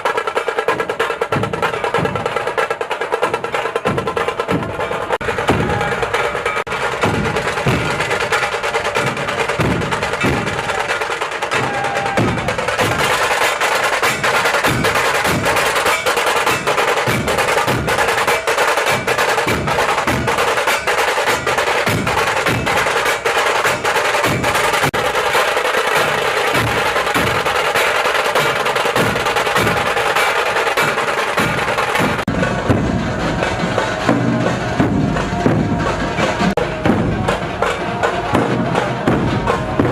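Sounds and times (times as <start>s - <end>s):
percussion-driven music: 0.0s - 39.9s.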